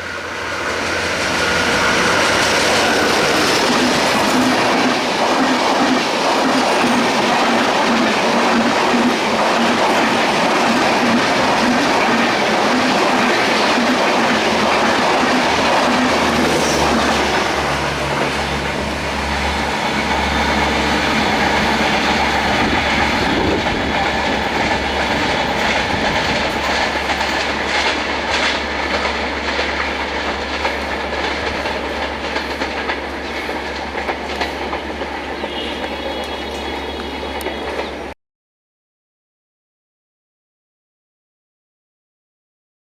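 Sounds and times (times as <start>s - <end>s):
passenger train passing: 0.0s - 38.2s
wheels clacking over rail joints: 0.0s - 38.2s.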